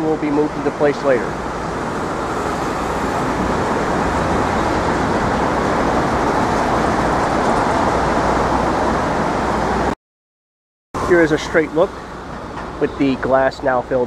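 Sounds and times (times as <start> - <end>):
city traffic roar: 0.0 - 10.0, 11.0 - 14.0.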